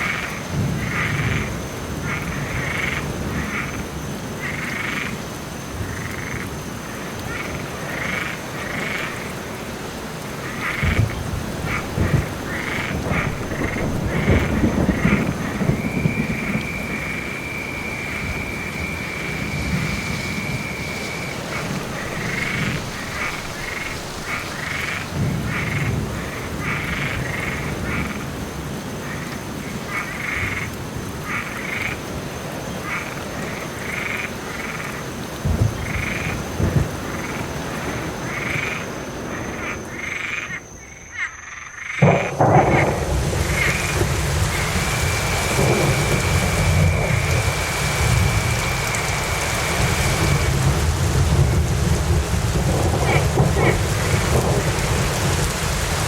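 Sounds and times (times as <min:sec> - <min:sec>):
distant thunder rumbling: 0:00.0 - 0:40.6, 0:41.9 - 0:56.0
steady rain: 0:00.0 - 0:41.2, 0:41.8 - 0:56.0
frogs croaking in chorus: 0:00.0 - 0:56.0.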